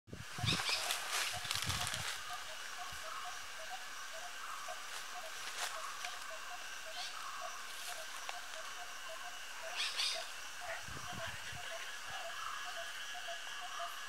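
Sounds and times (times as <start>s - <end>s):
insects hissing: 0.1s - 14.0s.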